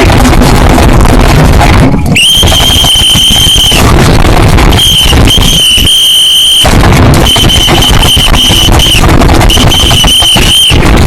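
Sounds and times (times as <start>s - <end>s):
distorted rumbling noise: 0.0s - 11.0s
high-pitched squeal: 0.0s - 11.0s.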